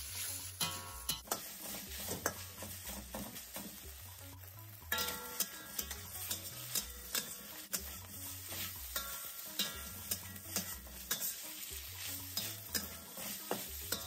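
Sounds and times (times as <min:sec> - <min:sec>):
meat sizzling in oil: 0:00.0 - 0:14.0
spatula scraping wok: 0:00.0 - 0:14.0.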